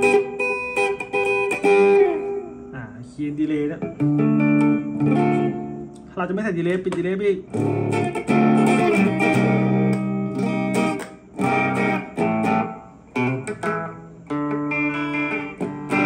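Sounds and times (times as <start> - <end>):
electric guitar chords and notes: 0.0 - 16.0.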